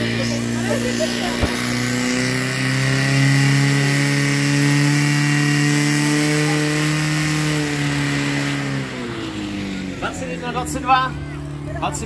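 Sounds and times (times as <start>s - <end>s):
pump engine high-revving drone: 0.0s - 12.0s.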